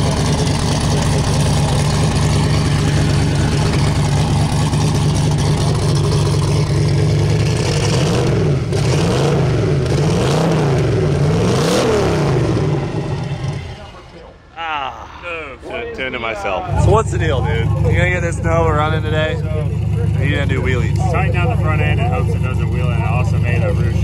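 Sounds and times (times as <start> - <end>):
engine throttle blips: 0.0 - 14.5, 15.6 - 24.0
car engine idling: 0.0 - 24.0.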